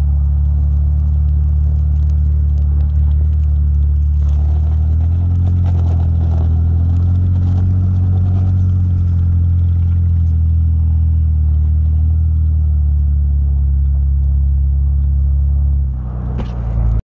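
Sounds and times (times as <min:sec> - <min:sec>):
vehicle engine droning under load: 0:00.0 - 0:17.0.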